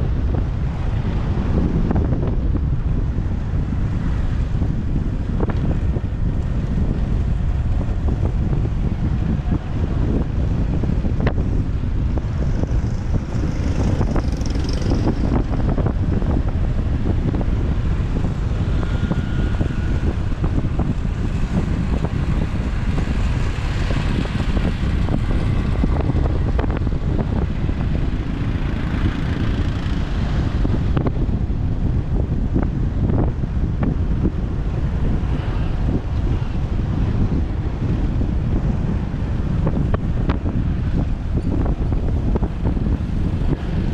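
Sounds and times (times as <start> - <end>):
road and traffic noise: 0.0 - 43.9
wind buffeting microphone: 0.0 - 43.9.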